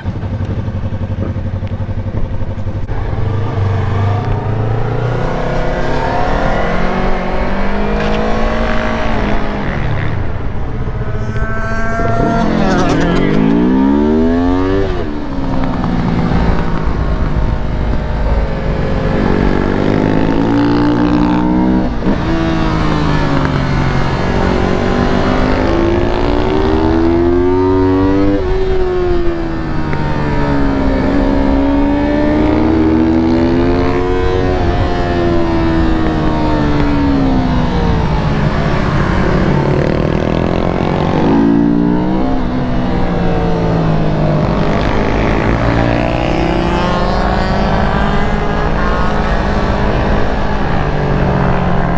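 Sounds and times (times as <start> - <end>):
motorcycle engine accelerating and slowing: 0.0 - 51.9.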